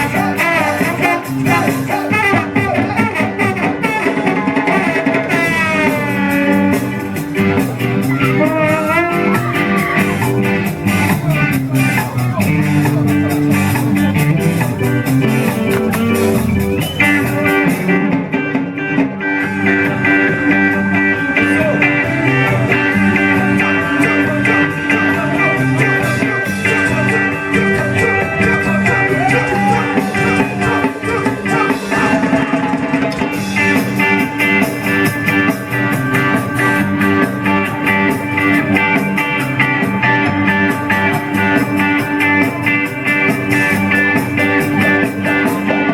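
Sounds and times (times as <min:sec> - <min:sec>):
guitar: 0:00.0 - 0:45.9
ska band music: 0:00.0 - 0:45.9.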